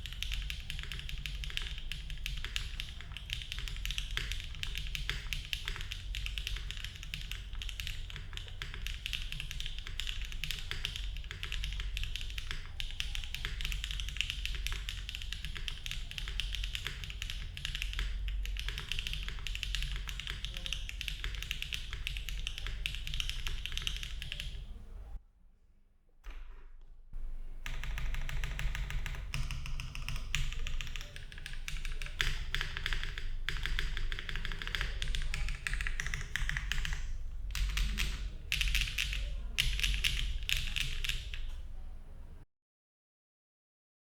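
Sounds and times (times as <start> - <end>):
fast mechanical keyboard typing: 0.0 - 25.2, 27.2 - 41.8.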